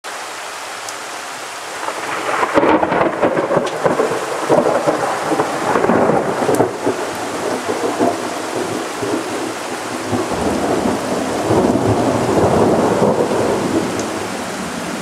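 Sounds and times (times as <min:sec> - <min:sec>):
heavy rain: 0:00.0 - 0:15.0
thunder rumbling: 0:01.7 - 0:15.0.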